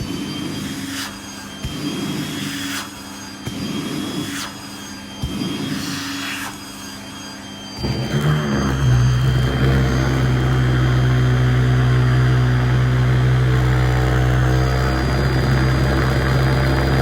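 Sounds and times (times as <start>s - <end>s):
vacuum cleaner whining: 0.0s - 17.0s
vacuum nozzle over fabric: 0.0s - 17.0s.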